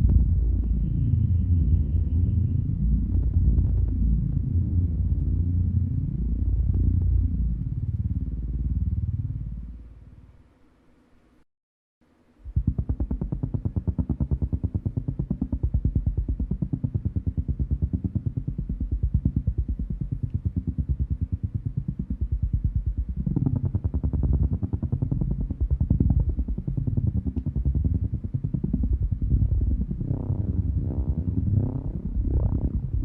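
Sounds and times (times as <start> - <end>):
pulsing spaceship engine drone: 0.0 - 10.2, 12.6 - 33.0.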